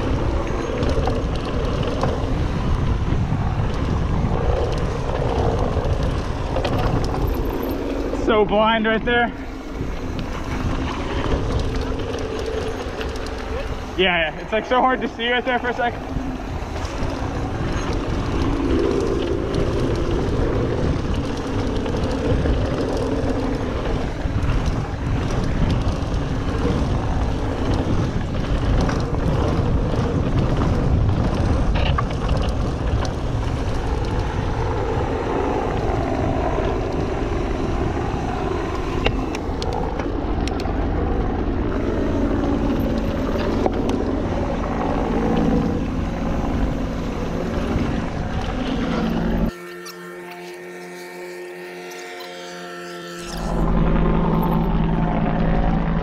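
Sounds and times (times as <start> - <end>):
bike tyres rolling on dirt: 0.0 - 49.5
wind on microphone: 0.0 - 49.5
bike clicks and rattles: 0.0 - 52.5.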